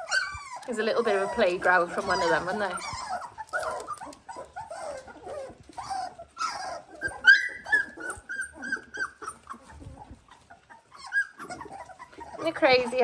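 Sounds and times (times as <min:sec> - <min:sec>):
puppies whimpering and squeaking: 0:00.0 - 0:13.0.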